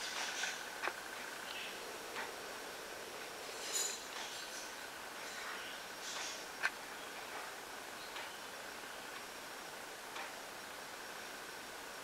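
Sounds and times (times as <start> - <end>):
faint high whine: 0.0 - 12.0
steady hiss: 0.0 - 12.0.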